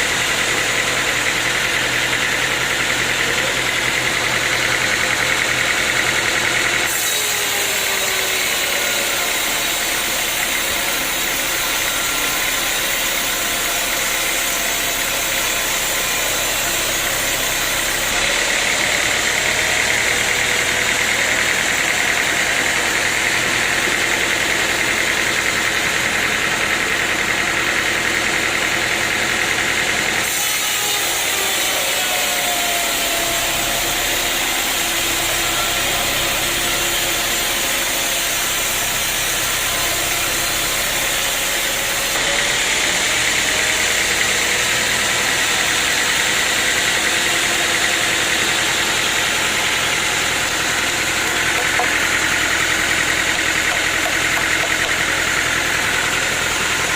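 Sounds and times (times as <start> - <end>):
saw cutting through wood: 0.0 - 56.9
sawmill machinery running: 0.0 - 56.9.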